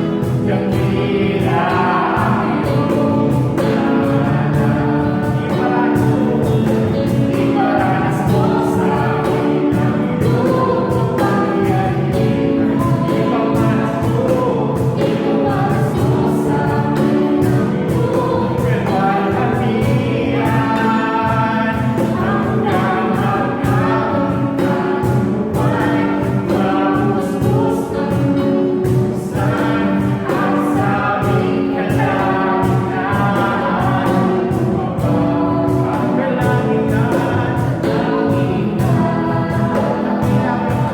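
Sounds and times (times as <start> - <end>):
band with steady drum beat: 0.0 - 40.9
group of voices singing: 0.0 - 40.9.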